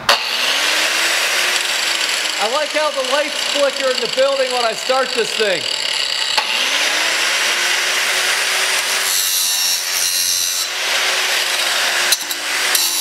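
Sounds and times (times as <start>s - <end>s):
grinder disc grinding steel: 0.1s - 13.0s
grinder motor humming: 0.1s - 13.0s.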